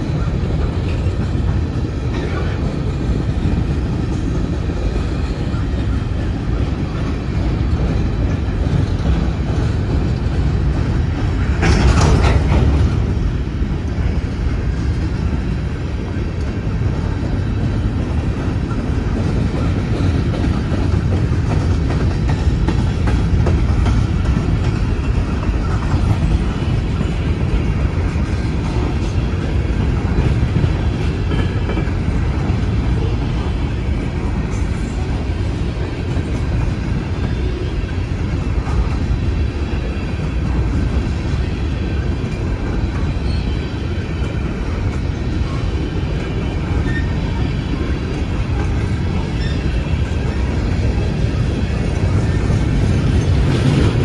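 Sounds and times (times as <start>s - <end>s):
train cars rolling on rails: 0.0s - 54.0s.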